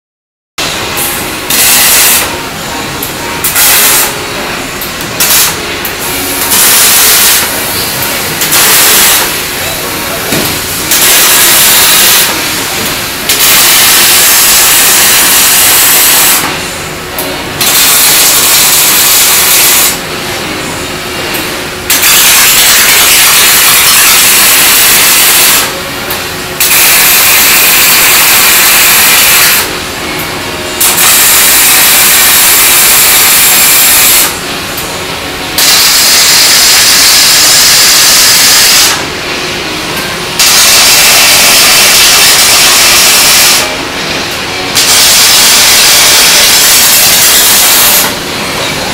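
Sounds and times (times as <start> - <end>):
low steady machine noise: 0.6 - 48.9
welding arc crackling and hissing: 0.7 - 48.9.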